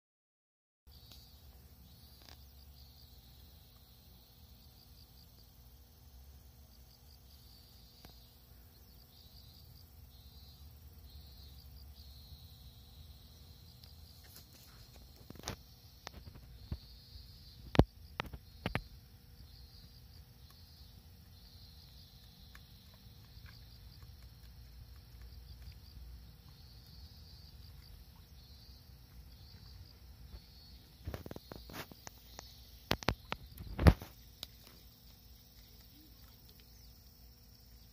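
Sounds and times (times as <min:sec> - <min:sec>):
crickets chirping: 0:00.9 - 0:37.9.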